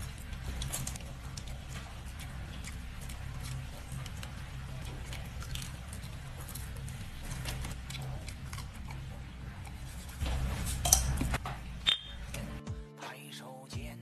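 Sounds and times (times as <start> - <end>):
crunchy chewing: 0.0 - 11.4
steady low hum: 0.0 - 12.6.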